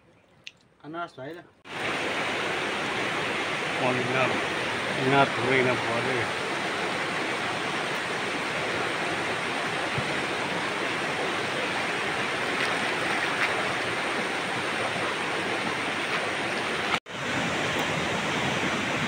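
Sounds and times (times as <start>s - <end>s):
river rushing: 1.7s - 19.0s.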